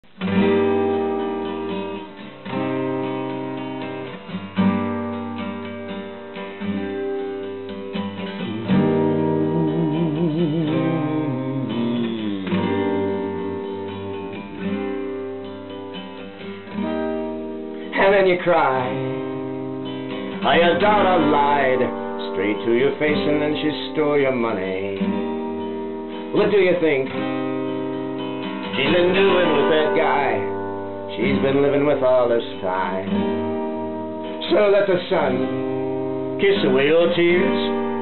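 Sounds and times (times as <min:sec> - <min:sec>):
acoustic guitar chords: 0:00.0 - 0:38.0.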